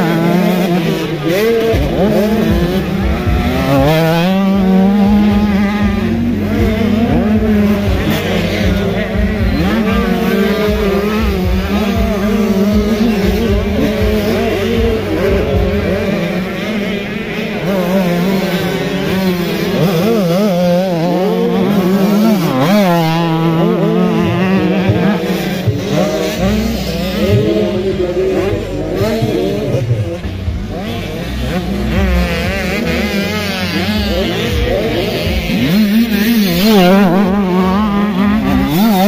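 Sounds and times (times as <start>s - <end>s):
motocross bikes revving: 0.0s - 39.0s
steady low tone: 0.0s - 39.0s.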